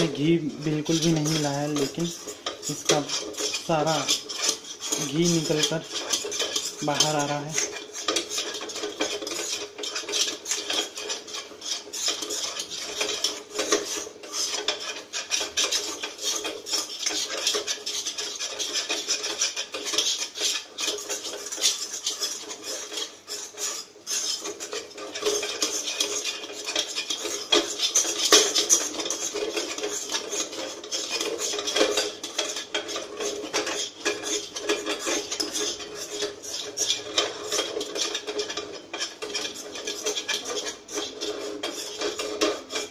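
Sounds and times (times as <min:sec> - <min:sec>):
utensil scraping a pan: 0:00.0 - 0:42.9
utensil clinking against pan: 0:00.8 - 0:42.9.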